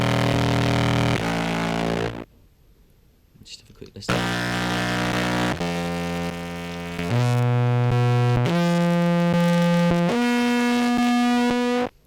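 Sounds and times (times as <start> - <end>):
buzzy distorted clarinet notes: 0.0 - 2.3, 4.1 - 12.0.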